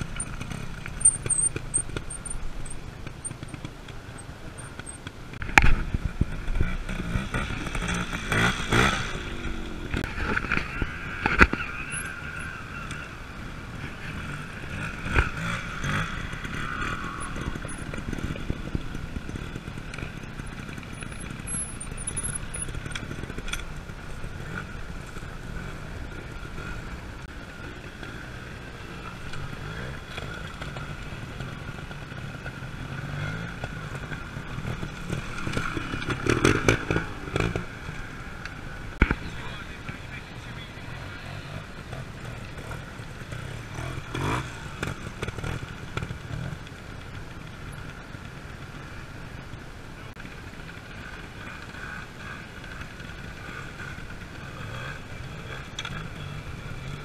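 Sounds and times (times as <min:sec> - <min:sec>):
motorcycle engine revving: 0:00.0 - 0:49.4, 0:50.0 - 0:57.0.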